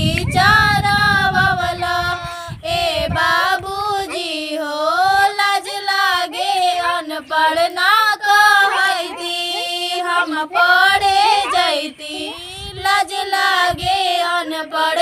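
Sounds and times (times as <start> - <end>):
person singing folk song: 0.0 - 15.0.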